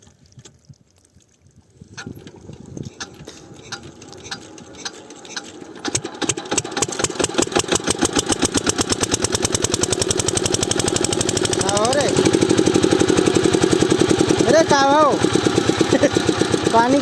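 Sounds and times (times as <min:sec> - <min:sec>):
diesel pump engine starting: 0:01.9 - 0:17.0.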